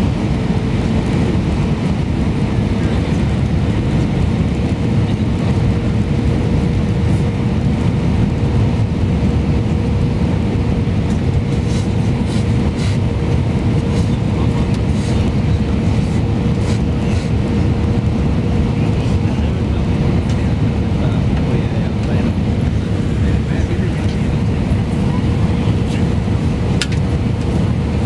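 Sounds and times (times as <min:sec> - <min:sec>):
aircraft cabin engine rumble: 0:00.0 - 0:28.0
steady hum: 0:00.0 - 0:28.0.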